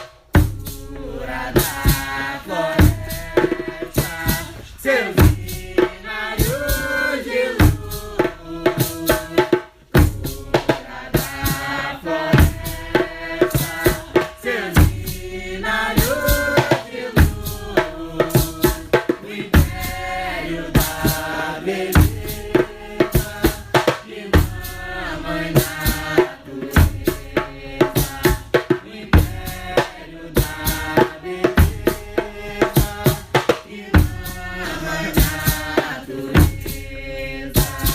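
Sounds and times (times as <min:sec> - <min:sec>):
hand drums: 0:00.0 - 0:37.9
heavy drum stroke: 0:00.0 - 0:37.9
voices singing a chant: 0:00.0 - 0:37.9.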